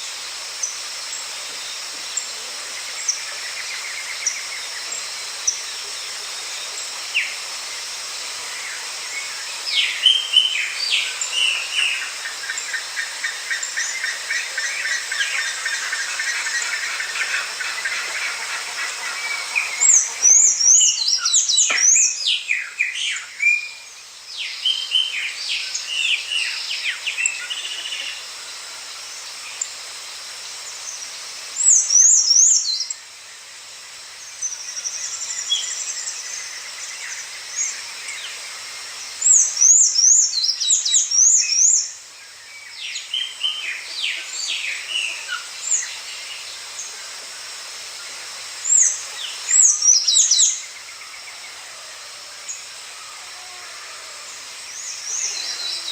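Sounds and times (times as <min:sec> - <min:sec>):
songbird singing: 0:00.0 - 0:29.8, 0:30.6 - 0:33.5, 0:34.1 - 0:47.1, 0:47.8 - 0:55.9.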